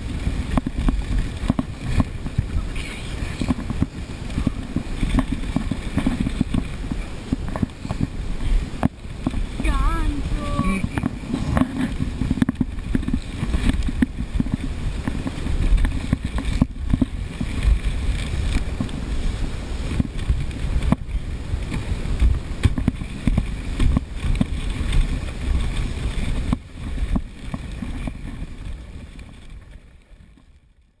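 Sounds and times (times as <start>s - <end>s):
wind on microphone: 0.0s - 30.5s
sled knocks and jolts: 0.0s - 30.6s
sled runners rumbling on snow: 0.0s - 31.0s.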